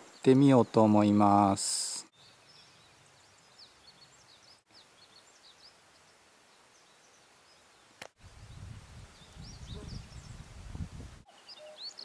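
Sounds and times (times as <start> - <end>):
faint songbird chirps: 0.0 - 12.0.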